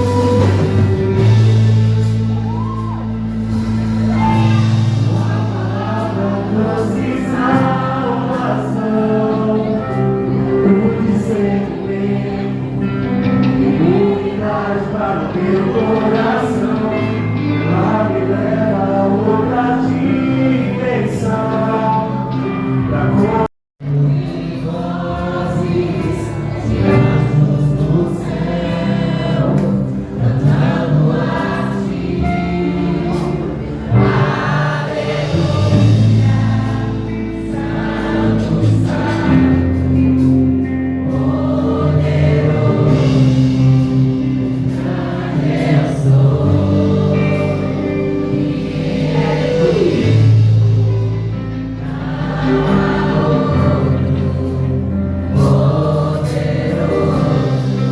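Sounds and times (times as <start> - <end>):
bass and keyboard chords: 0.0 - 57.9
congregation singing: 0.0 - 57.9.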